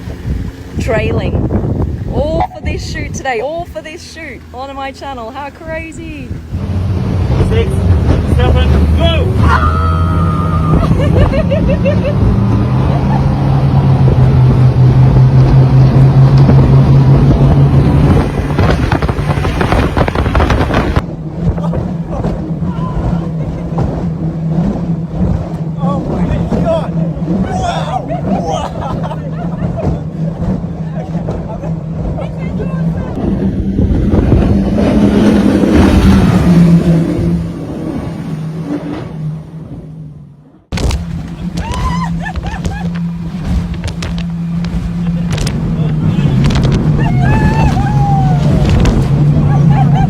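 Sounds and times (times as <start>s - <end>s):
wind buffeting microphone: 0.0s - 3.9s, 5.6s - 40.0s, 40.7s - 50.0s
motorboat engines droning: 0.0s - 50.0s
water rushing: 0.0s - 50.0s.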